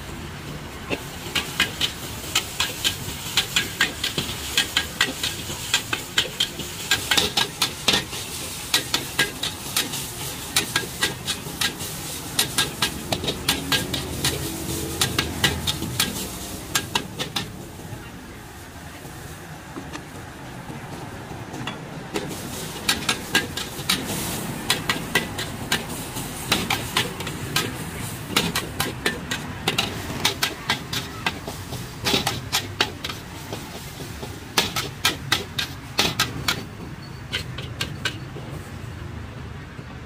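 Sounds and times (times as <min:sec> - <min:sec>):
metal spatula scraping a wok: 0:00.9 - 0:17.6, 0:22.2 - 0:38.6.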